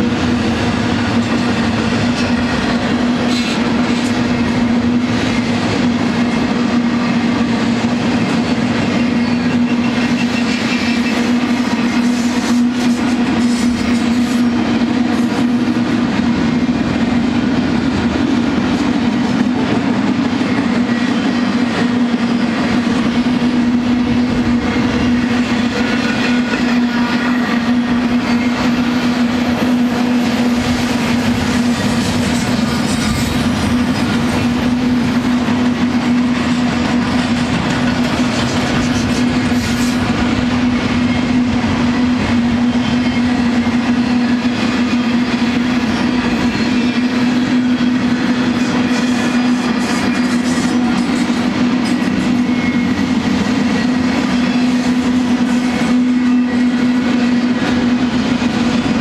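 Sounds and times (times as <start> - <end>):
train wheels rumbling and rattling: 0.0 - 59.0.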